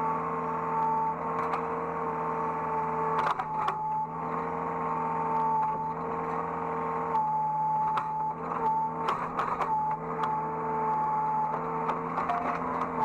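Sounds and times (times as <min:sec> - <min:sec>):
excavator engine hum: 0:00.0 - 0:13.0.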